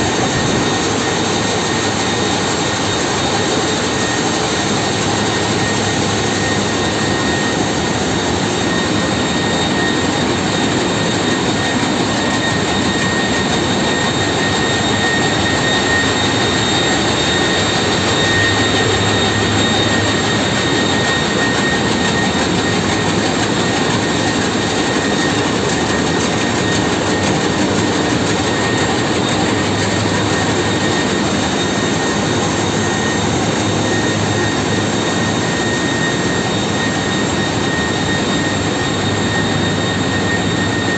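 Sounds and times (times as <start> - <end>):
steady high whine: 0.0 - 40.9.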